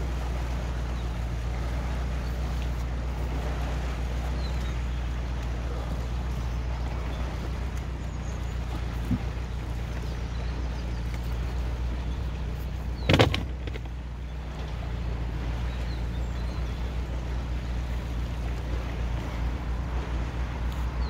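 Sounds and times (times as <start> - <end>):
diesel engine idling: 0.0 - 21.0
water rushing out: 0.0 - 21.0.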